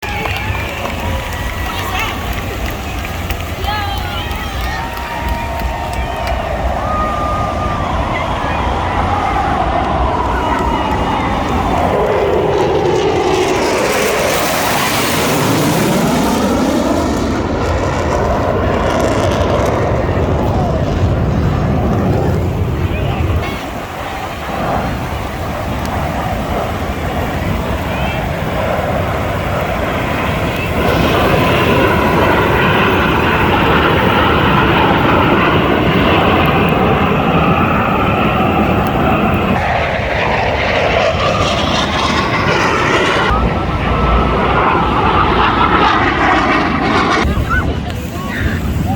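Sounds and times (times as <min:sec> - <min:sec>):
aircraft flying past: 0:00.1 - 0:48.9.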